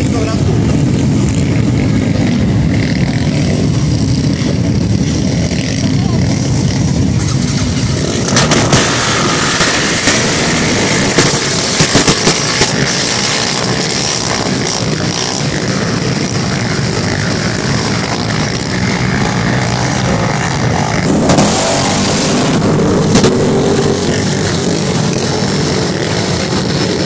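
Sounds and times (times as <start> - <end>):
quad bike engines revving: 0.0 - 27.0.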